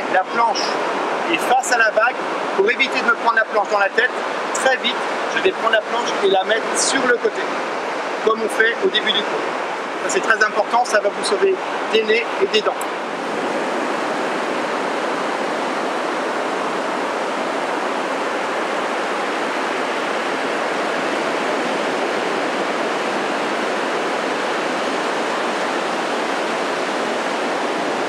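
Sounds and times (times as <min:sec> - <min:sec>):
sea surf rushing: 0:00.0 - 0:28.0.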